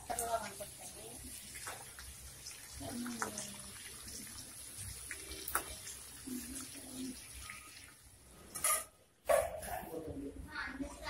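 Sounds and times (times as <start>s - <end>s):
chicken deep-frying in oil: 0.0s - 9.0s.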